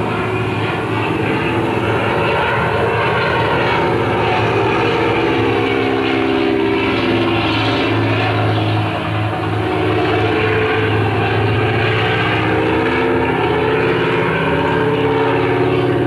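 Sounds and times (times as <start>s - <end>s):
piston aircraft engine droning: 0.0s - 16.0s.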